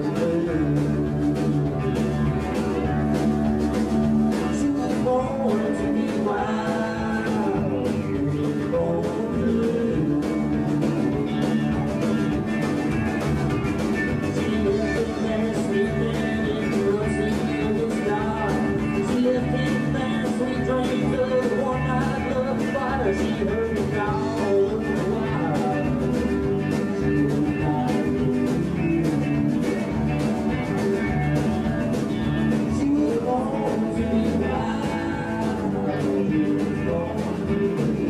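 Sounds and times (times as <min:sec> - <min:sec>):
live country band playing: 0:00.0 - 0:38.0.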